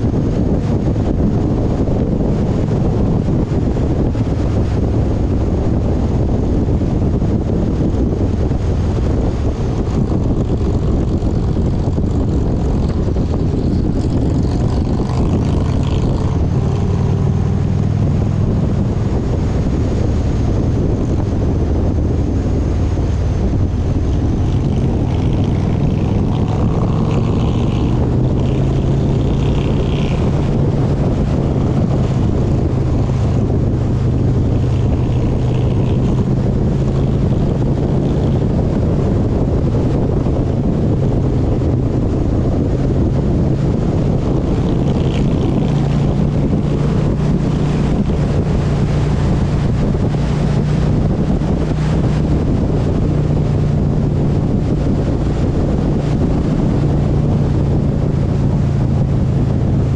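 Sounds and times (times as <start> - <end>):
vehicle engine running: 0.0 - 59.9
wind on microphone: 0.0 - 59.9.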